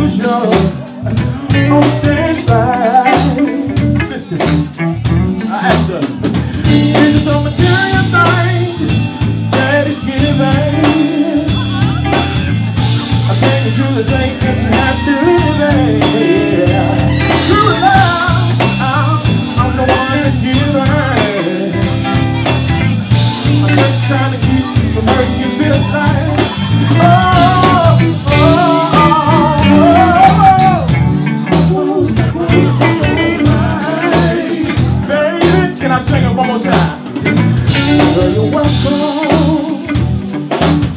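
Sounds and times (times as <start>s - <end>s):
blues band playing: 0.0s - 40.9s
man singing: 0.0s - 40.9s.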